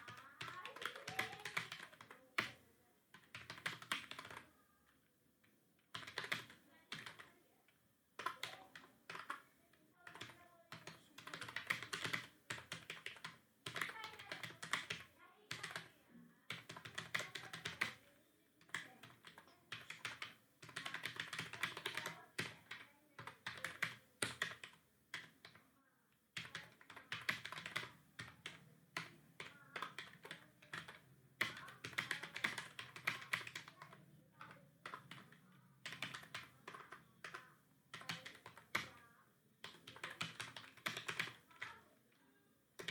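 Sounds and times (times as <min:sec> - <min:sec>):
typing on computer keyboard: 0:00.0 - 0:04.5, 0:05.8 - 0:07.3, 0:08.2 - 0:15.9, 0:16.5 - 0:25.6, 0:26.4 - 0:42.2.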